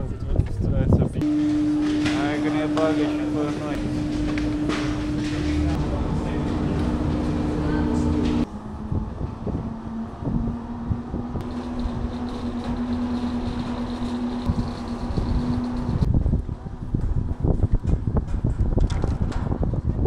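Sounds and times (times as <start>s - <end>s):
wind noise: 0.0s - 1.3s, 3.7s - 20.0s
mechanical hum: 0.0s - 20.0s
low rumble: 1.2s - 20.0s.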